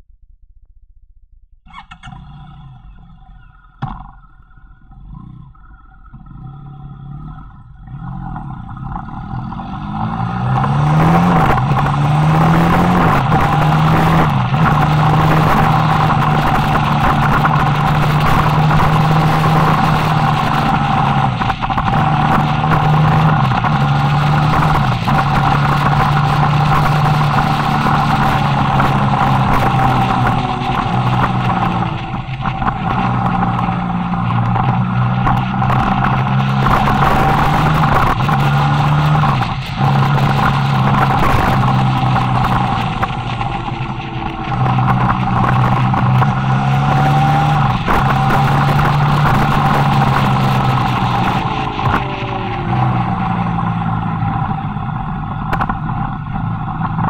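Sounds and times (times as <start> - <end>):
motorcycle engine: 0.0 - 57.0
wind and road noise: 1.6 - 57.0.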